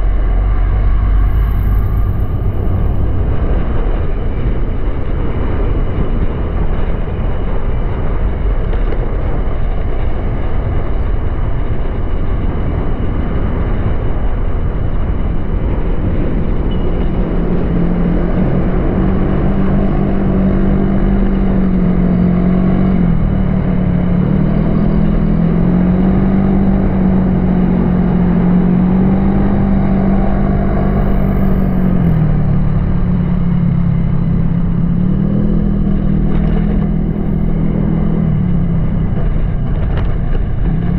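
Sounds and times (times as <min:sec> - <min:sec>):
scooter engine cruising: 0:00.0 - 0:40.9
wind rumble on microphone: 0:00.0 - 0:40.9.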